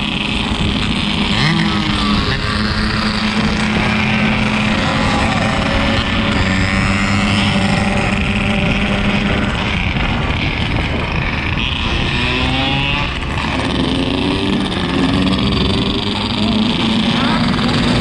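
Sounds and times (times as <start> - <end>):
motorcycle engine revving: 0.0 - 18.0
wind and road noise: 0.0 - 18.0.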